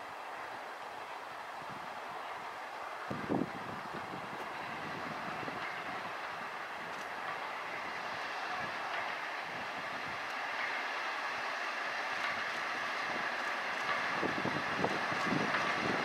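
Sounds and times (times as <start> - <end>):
steam locomotive exhaust: 0.0 - 16.0
train wheels on rails: 0.0 - 16.0.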